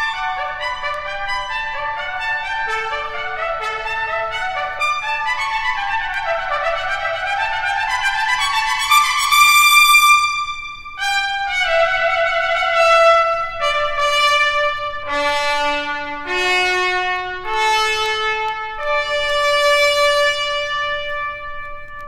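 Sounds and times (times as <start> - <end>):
solo trumpet long notes: 0.0 - 22.0.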